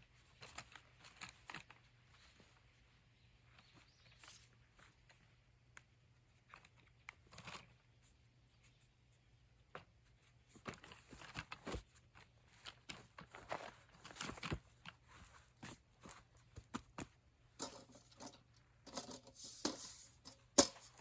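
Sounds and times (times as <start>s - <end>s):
faint handling rustles and clicks: 0.0s - 21.0s.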